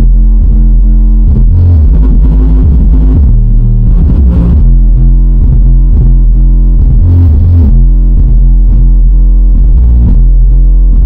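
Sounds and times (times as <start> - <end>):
bass-heavy music through car speaker: 0.0 - 11.0.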